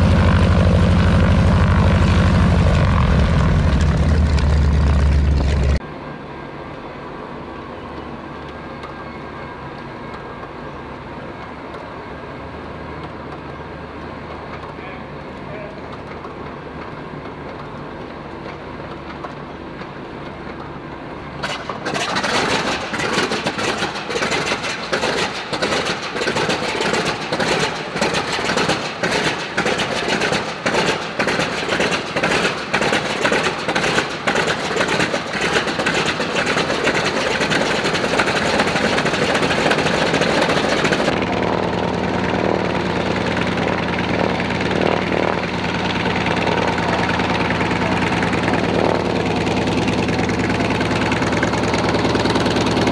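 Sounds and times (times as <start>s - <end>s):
radial engine running: 0.0s - 12.5s, 20.9s - 52.9s.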